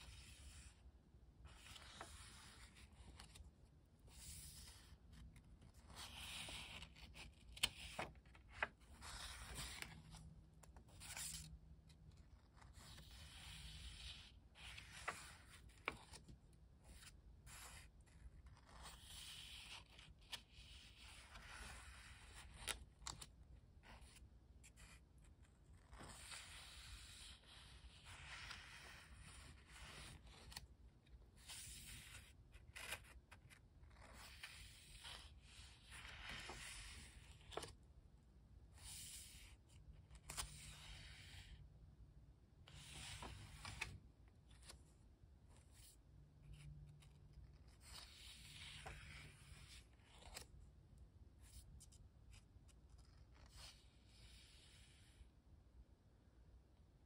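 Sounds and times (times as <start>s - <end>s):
sketchbook pages turning: 0.0s - 38.0s, 38.6s - 41.6s, 42.6s - 55.2s.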